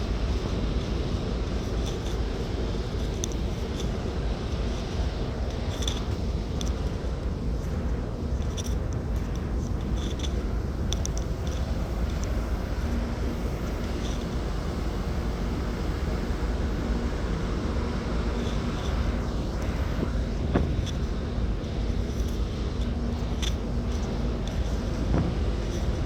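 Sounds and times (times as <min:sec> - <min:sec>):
faint hum: 0:00.0 - 0:26.0
low rumble of ferry: 0:00.0 - 0:26.0.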